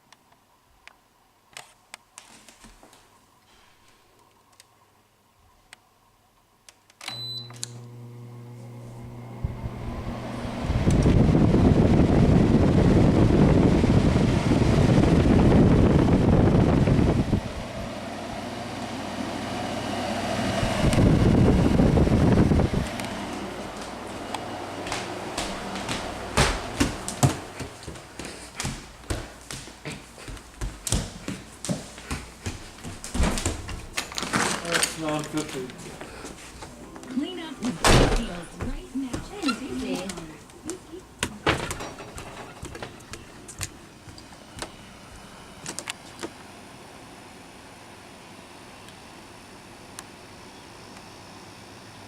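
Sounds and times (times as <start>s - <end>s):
air conditioner whirring: 0.0s - 52.0s.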